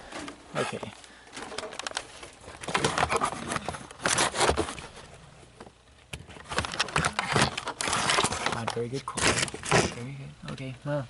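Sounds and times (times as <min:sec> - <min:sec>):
rasping scraping handling noise: 0:00.0 - 0:10.2.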